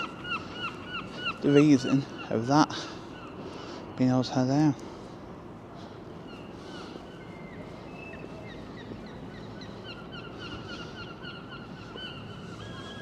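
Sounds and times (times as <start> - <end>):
birds calling: 0.0 - 13.0
outdoor background hum: 0.0 - 13.0.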